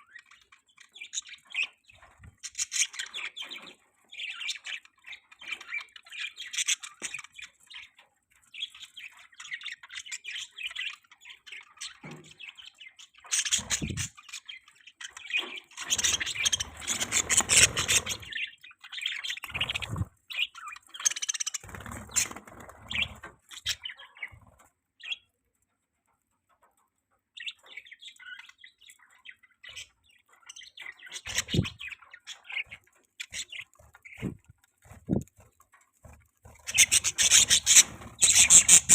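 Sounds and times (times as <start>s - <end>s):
budgerigars chirping and chattering: 0.0s - 25.4s, 26.4s - 38.9s.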